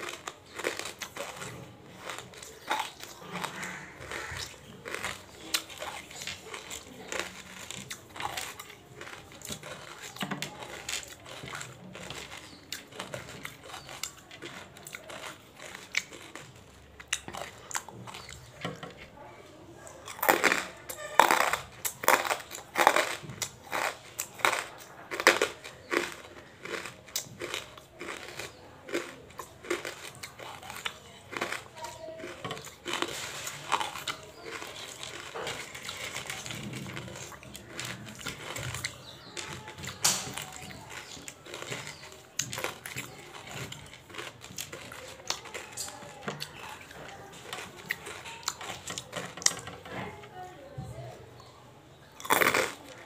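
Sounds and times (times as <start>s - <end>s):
crunchy chewing of crystals: 0.0s - 53.0s.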